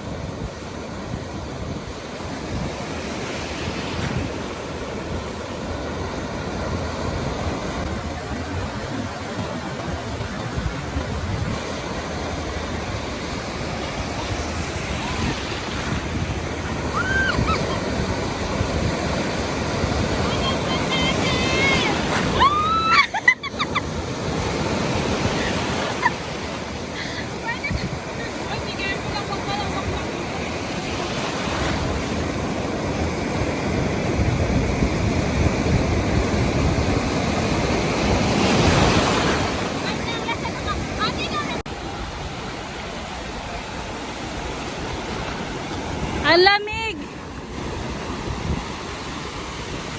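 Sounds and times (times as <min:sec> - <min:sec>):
ocean surf breaking on beach: 0:00.0 - 0:49.9
wind buffeting microphone: 0:00.0 - 0:49.9.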